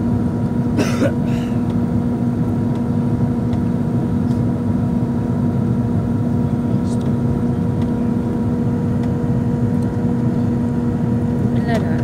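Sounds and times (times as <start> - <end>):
airliner engines and airflow rumble: 0.0 - 12.0
constant low hum: 0.0 - 12.0.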